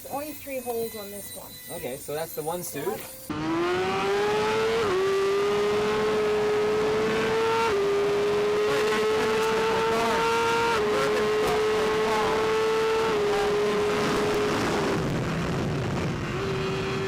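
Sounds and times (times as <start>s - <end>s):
racing motorcycle engine revving: 3.3s - 17.0s.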